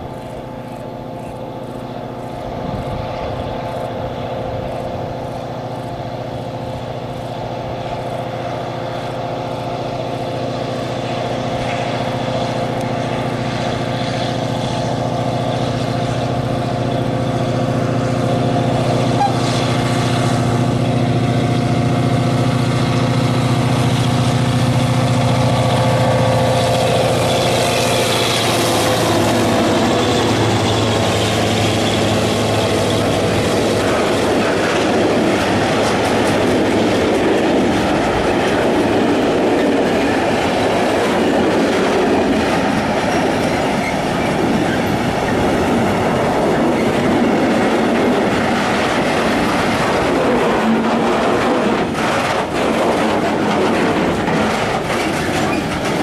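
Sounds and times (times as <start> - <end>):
diesel locomotive engine: 0.0 - 56.0
wagon wheels rolling on rails: 0.0 - 56.0.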